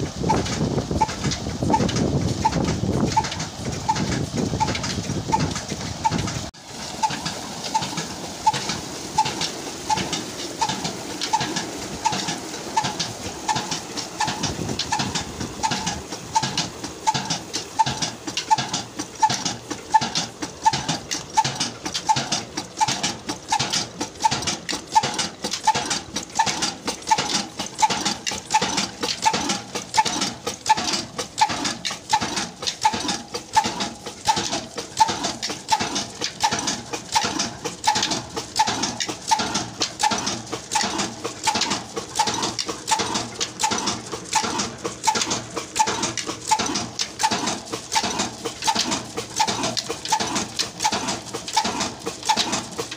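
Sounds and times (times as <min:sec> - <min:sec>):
diesel engine running steadily: 0:00.0 - 0:52.9.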